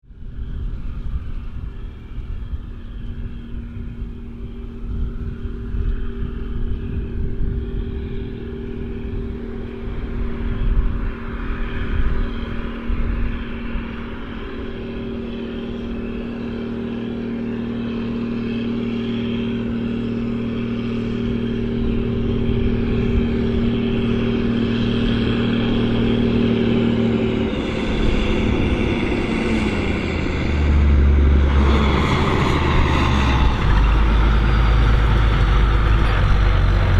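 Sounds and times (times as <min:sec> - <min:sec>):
tractor diesel engine droning: 0:00.0 - 0:36.9.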